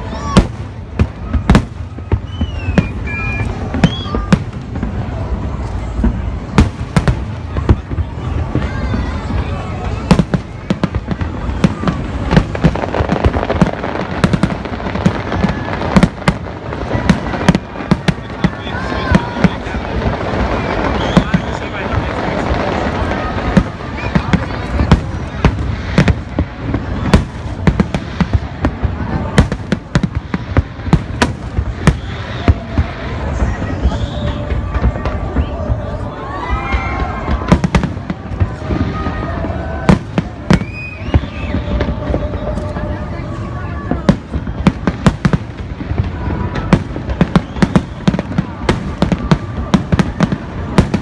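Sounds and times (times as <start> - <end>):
fireworks bangs: 0.0 - 51.0.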